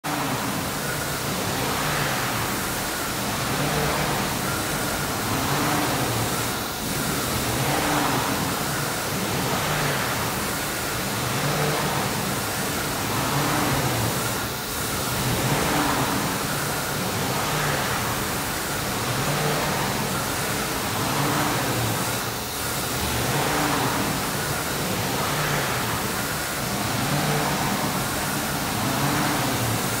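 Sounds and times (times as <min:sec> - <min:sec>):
cnc router running: 0:00.1 - 0:30.0.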